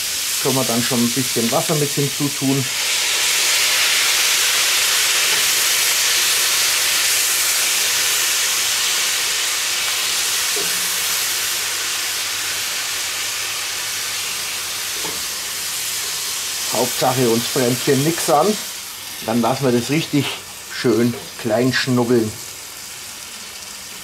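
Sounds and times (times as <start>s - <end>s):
water hissing in hot pan: 0.0s - 24.0s.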